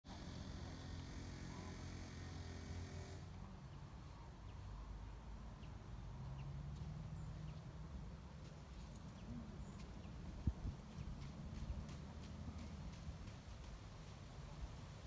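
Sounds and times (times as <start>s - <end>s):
low steady rumble: 0.1s - 15.0s.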